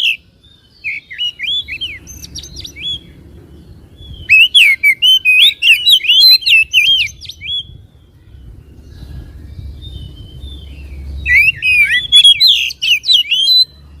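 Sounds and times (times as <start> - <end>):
bird singing whistled notes: 0.0 - 14.0.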